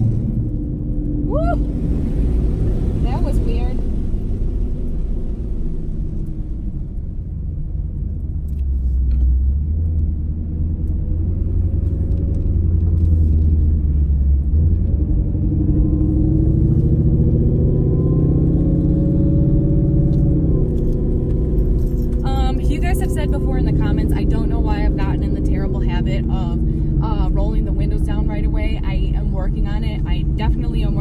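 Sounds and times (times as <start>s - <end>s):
supercharged car engine under load: 0.0s - 31.0s.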